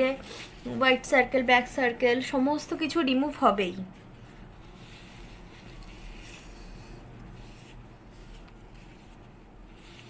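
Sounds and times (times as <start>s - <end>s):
low steady room hum: 0.0s - 10.0s.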